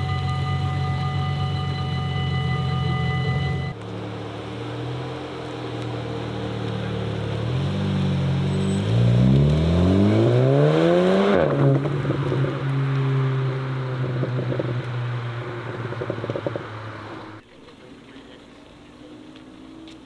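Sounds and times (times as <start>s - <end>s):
car engine revving: 0.0s - 17.4s
engine crackle: 0.0s - 20.0s.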